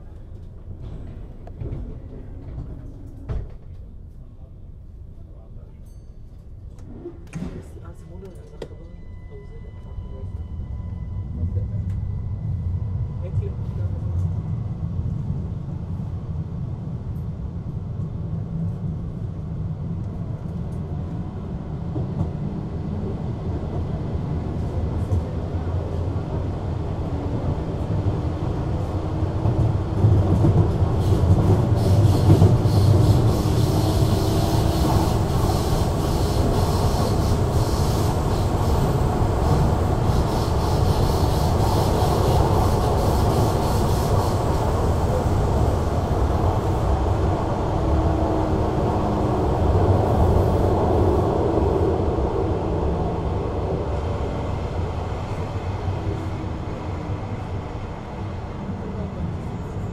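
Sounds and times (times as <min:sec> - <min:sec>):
light-rail car rumbling: 0:00.0 - 0:59.9
rail noise and hiss: 0:00.0 - 0:59.9.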